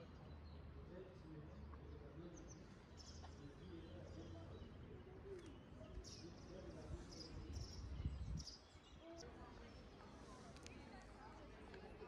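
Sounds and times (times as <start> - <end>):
murmur of distant voices: 0.0 - 12.0
small birds chirping: 0.0 - 12.0.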